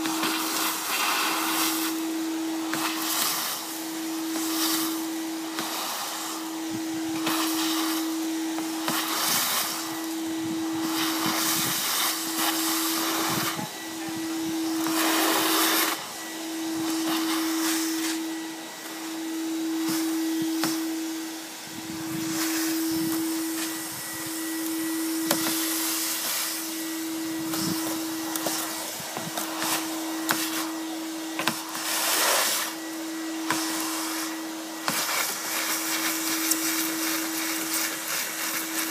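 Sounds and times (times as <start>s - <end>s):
vacuum motor hum: 0.0s - 38.9s.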